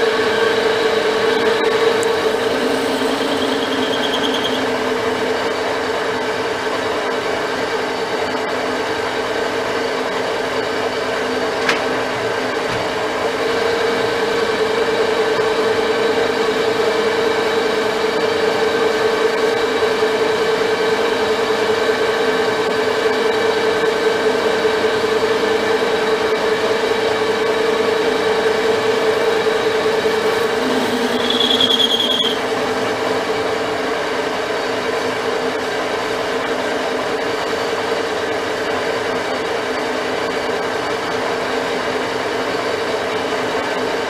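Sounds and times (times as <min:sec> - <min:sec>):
metal lathe humming: 0:00.0 - 0:38.8.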